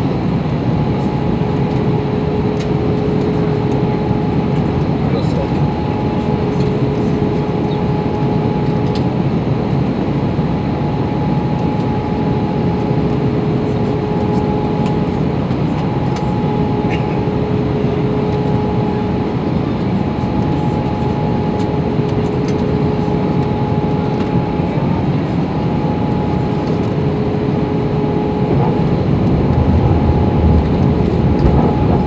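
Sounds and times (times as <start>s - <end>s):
engine and airflow rush: 0.0s - 32.0s
faint steady hums: 0.4s - 32.0s.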